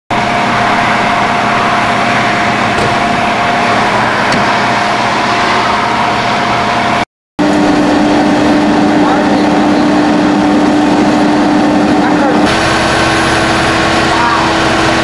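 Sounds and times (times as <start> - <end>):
constant whine: 0.1 - 15.0
vehicle engine idling drone: 0.1 - 15.0.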